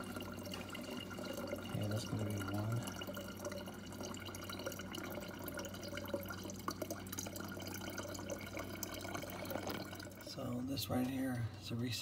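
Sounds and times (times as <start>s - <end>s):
water running into plastic bottle: 0.0s - 11.3s.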